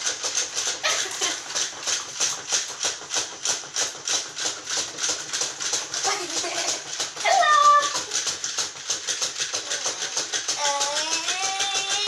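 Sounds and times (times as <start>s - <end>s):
toy mechanism clicking rattle: 0.0s - 12.0s.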